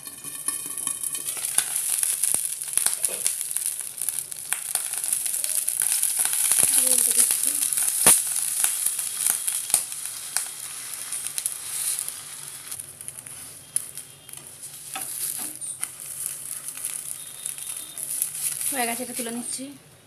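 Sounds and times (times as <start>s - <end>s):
food sizzling in oil: 0.0s - 19.8s.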